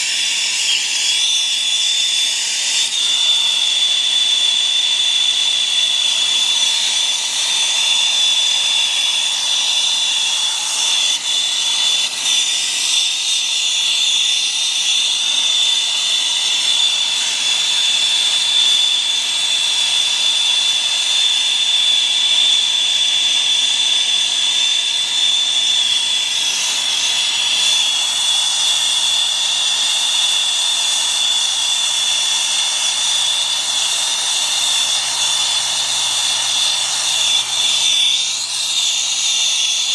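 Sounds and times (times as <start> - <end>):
high whistle: 0.0 - 39.9
torch flame hissing: 0.0 - 39.9.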